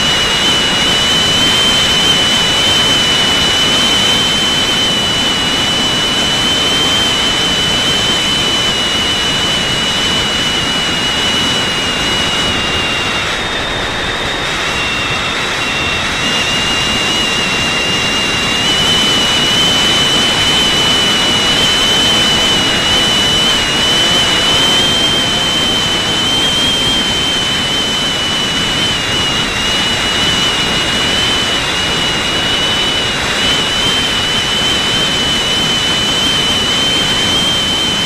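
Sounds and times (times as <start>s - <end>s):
drone motor whine: 0.0s - 38.0s
wind rushing past microphone: 0.0s - 38.0s.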